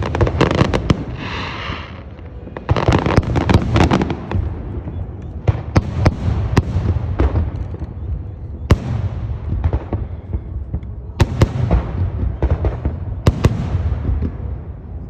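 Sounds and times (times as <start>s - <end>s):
fireworks bangs and pops: 0.0s - 15.0s
low rumble and crackle: 0.0s - 15.0s.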